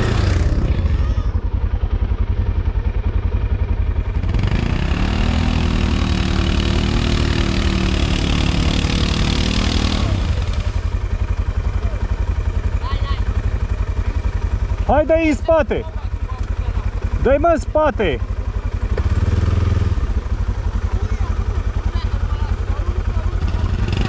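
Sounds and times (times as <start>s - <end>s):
quad bike engine revving: 0.0s - 24.0s.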